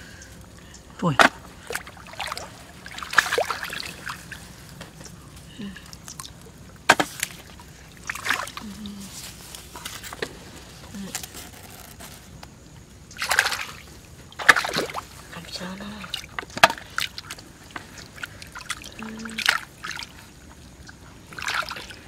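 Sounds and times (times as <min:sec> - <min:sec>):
shallow water sloshing and splashing: 0:00.0 - 0:22.0.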